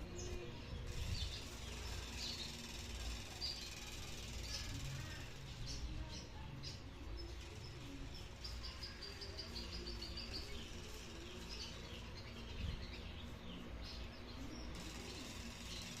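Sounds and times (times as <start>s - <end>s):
low background noise: 0.0s - 16.0s
small birds chirping: 0.0s - 16.0s.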